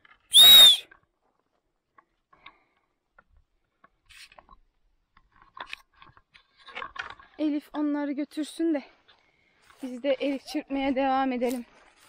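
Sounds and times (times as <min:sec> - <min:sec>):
faint ticks and rustles: 0:01.0 - 0:12.0.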